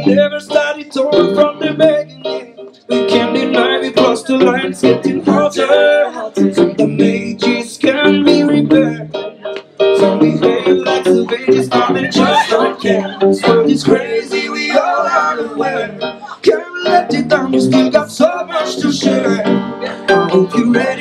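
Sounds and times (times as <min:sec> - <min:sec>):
live reggae band playing: 0:00.0 - 0:21.0.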